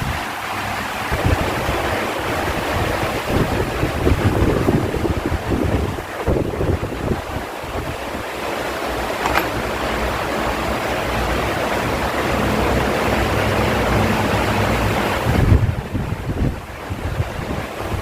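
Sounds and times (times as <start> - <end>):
electric fan airflow rushing: 0.0 - 18.0.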